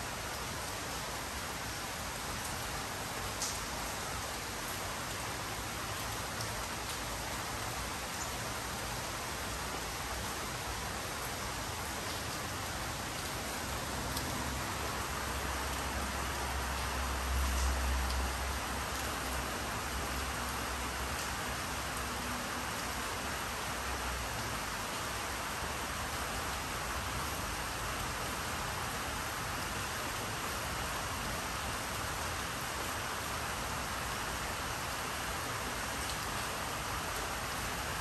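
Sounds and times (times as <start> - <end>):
steady rainfall: 0.0 - 38.0.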